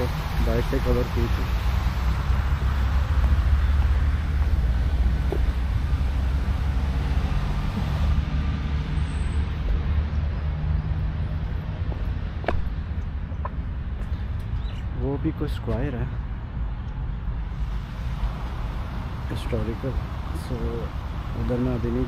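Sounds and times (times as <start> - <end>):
faint engine hum: 0.0 - 22.0
road traffic rumble: 0.0 - 22.0.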